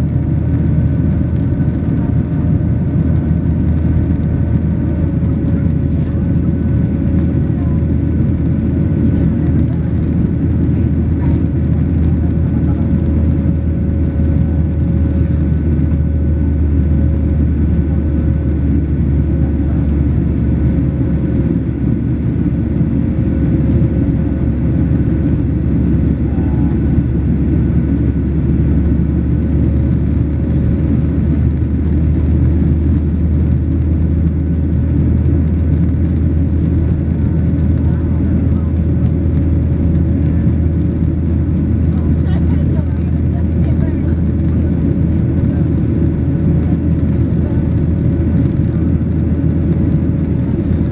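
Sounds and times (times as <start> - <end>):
aircraft cabin engine rumble: 0.0 - 50.9.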